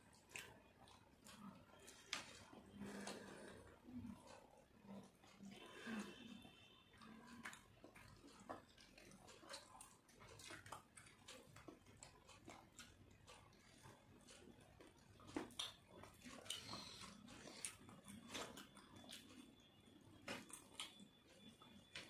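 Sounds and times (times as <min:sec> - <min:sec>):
chewing and lip smacks: 0:00.0 - 0:22.0.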